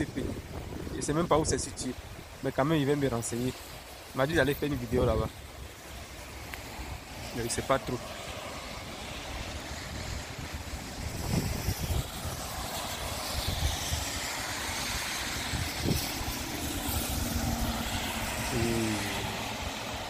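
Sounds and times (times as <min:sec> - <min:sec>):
wind buffeting microphone: 0:00.0 - 0:02.6, 0:03.5 - 0:20.0
cars passing on wet road: 0:00.0 - 0:20.0
rain hiss: 0:00.0 - 0:20.0.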